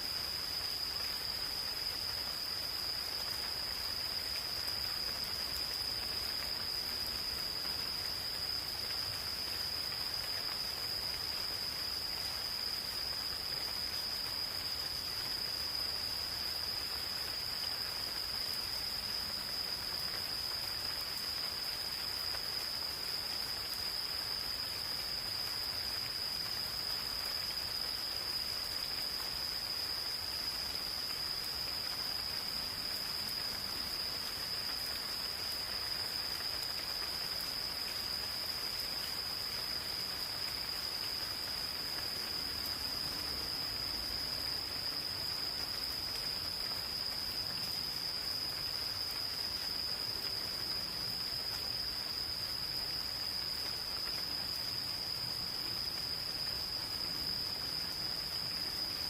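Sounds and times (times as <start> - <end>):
gentle rain falling: 0.0 - 59.0
insects trilling: 0.0 - 59.0.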